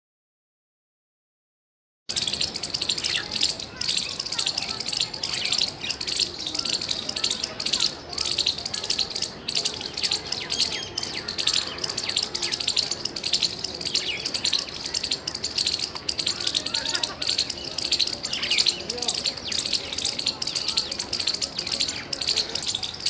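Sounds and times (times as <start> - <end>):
squirrel chirping: 2.1 - 23.0.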